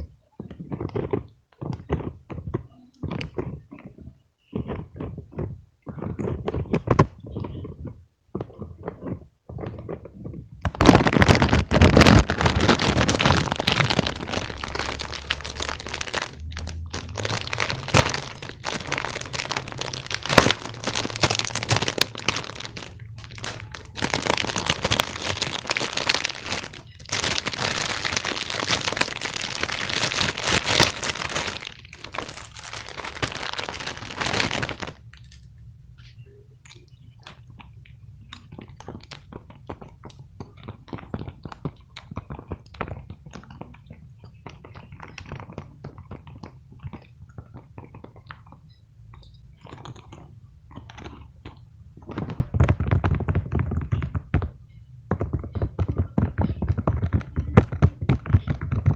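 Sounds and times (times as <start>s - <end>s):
crinkling and crackling by hand: 0.0s - 58.9s.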